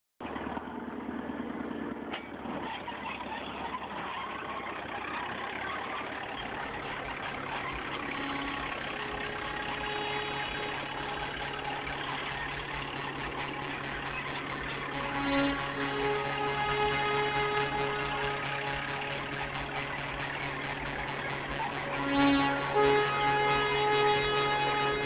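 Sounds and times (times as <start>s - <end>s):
diesel engine running: 0.2s - 25.0s.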